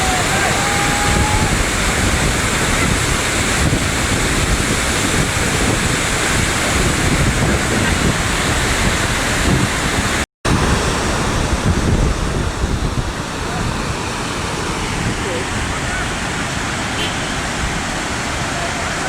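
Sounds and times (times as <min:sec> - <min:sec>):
waterfall rushing: 0:00.0 - 0:19.0
wind buffeting microphone: 0:00.0 - 0:19.0.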